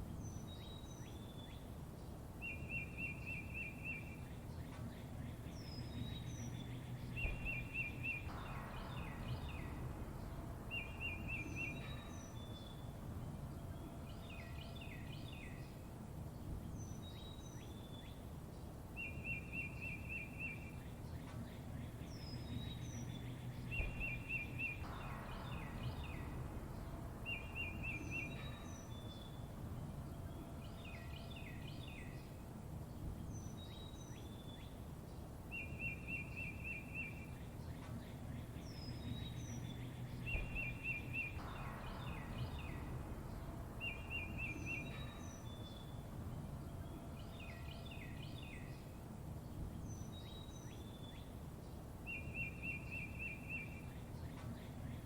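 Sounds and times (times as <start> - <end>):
low outdoor rumble: 0.0 - 55.0
songbirds chirping: 0.0 - 55.0.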